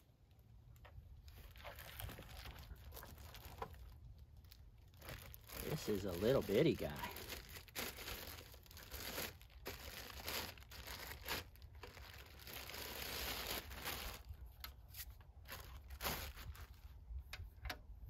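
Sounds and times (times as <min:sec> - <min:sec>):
plastic bag crinkling: 0:01.2 - 0:14.6, 0:15.4 - 0:16.8.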